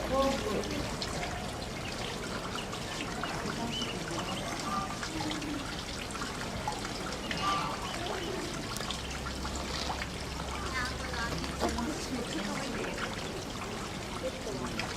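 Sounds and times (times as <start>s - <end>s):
water trickling: 0.0s - 14.9s.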